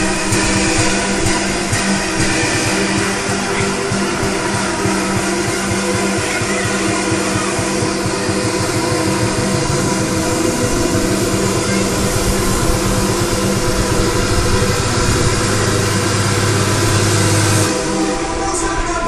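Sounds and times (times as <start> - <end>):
fairground ride mechanical drone: 0.0 - 19.0.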